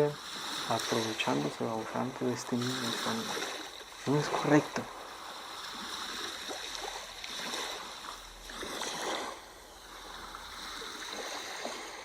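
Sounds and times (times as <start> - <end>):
sea waves washing in: 0.0 - 12.0.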